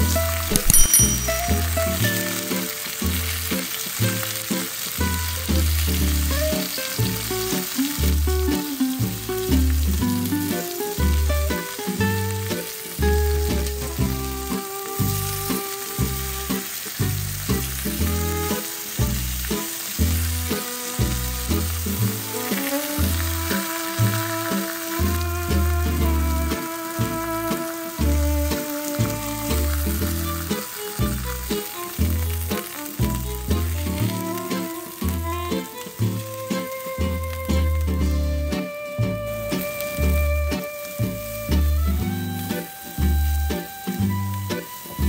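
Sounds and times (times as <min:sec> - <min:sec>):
food sizzling in frying pan: 0:00.0 - 0:45.0.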